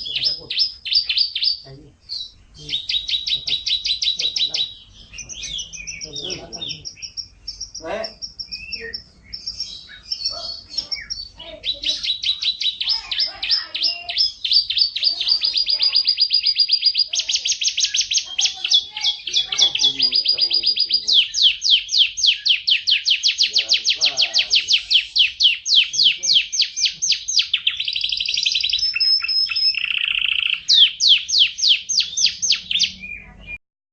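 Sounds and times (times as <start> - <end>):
songbird trilling song: 0.0 - 33.6.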